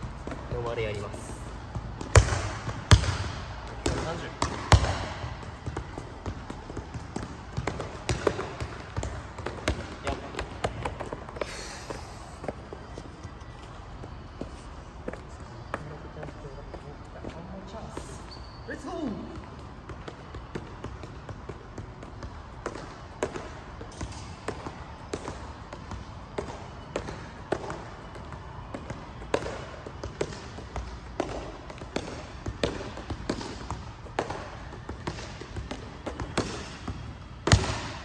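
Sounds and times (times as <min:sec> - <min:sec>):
soccer ball thuds: 0:00.0 - 0:11.5, 0:17.8 - 0:38.0.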